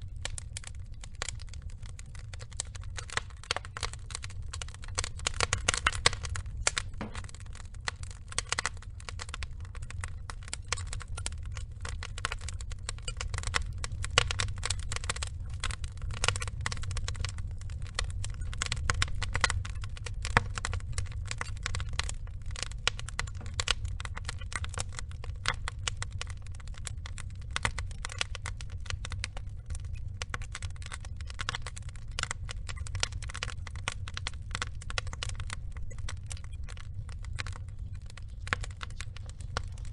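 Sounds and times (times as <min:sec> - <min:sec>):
log fire crackling: 0:00.0 - 0:39.9
low steady rumble: 0:00.0 - 0:39.9.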